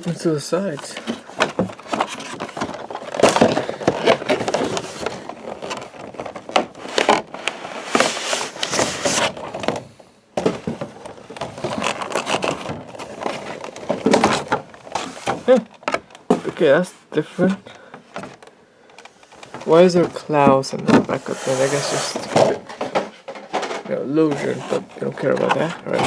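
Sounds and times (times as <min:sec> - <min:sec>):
cardboard flaps scraping: 0:00.8 - 0:17.6, 0:19.3 - 0:23.4.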